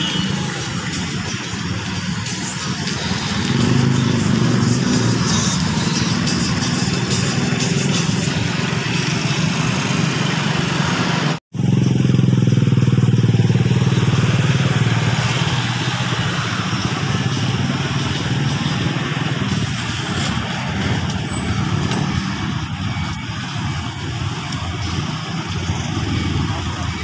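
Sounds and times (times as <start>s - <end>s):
loud engine hum: 0.0s - 27.0s
passing cars and motorcycles: 0.0s - 27.0s.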